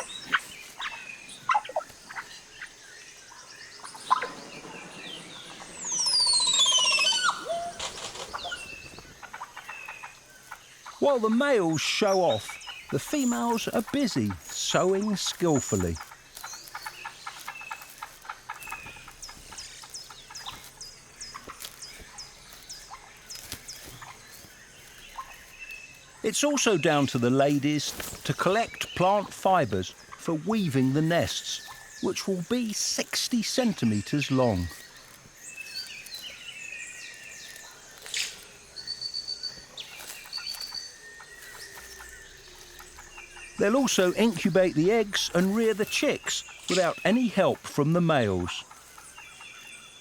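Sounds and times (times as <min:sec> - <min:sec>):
birds high whistled notes: 0:00.0 - 0:10.1, 0:10.8 - 0:50.0
birds clucking chatter: 0:00.0 - 0:50.0
faint insects: 0:00.0 - 0:50.0.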